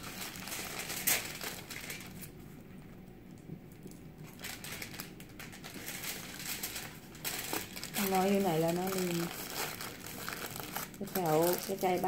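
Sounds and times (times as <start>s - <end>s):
aluminium foil crinkling: 0.0s - 3.0s, 3.8s - 12.0s.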